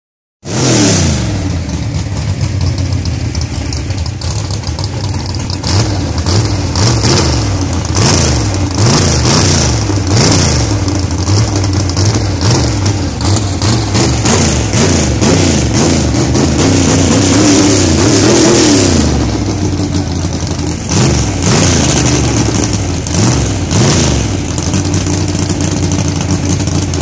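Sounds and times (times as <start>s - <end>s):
race car engine revving: 0.4s - 27.0s.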